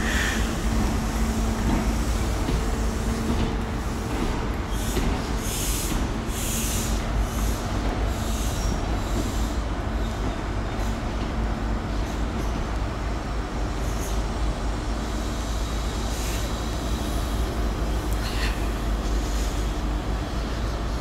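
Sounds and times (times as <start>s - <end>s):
diesel train rumble: 0.0s - 21.0s.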